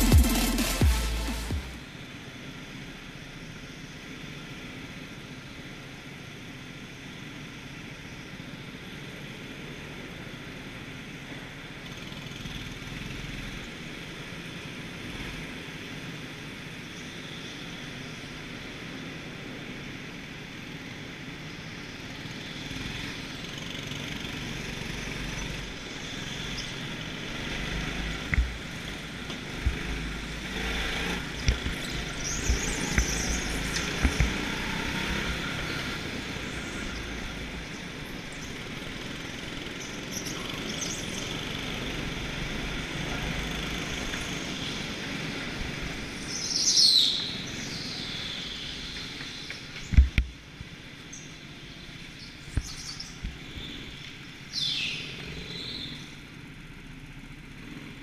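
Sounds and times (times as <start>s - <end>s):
go-kart engine and rolling: 4.4s - 58.0s.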